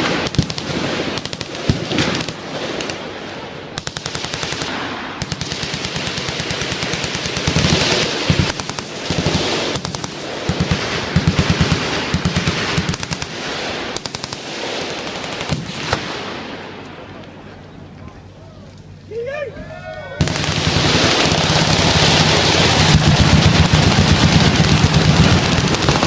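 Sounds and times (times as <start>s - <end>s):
machine guns firing in bursts: 0.0s - 17.1s, 20.2s - 26.0s.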